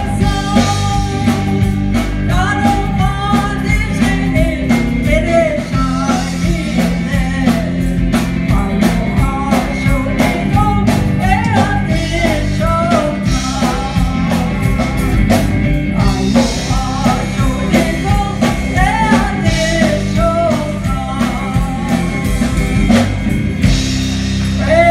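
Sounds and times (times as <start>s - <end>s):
gospel song with band: 0.0s - 24.9s.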